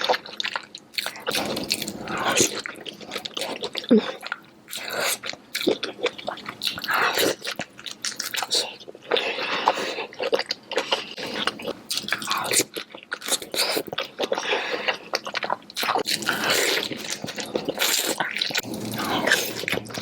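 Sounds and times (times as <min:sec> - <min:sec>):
close-miked wet chewing: 0:00.0 - 0:20.0.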